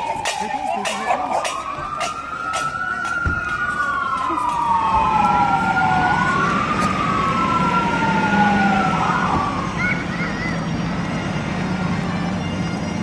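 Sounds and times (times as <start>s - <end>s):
emergency sirens wailing: 0.0s - 13.0s
siren warble: 0.0s - 13.0s.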